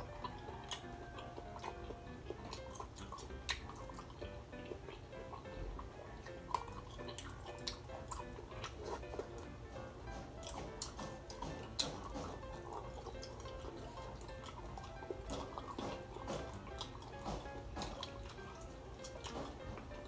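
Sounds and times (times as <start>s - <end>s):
soft background music: 0.0s - 20.0s
wet chewing and lip-smacking: 0.0s - 20.0s.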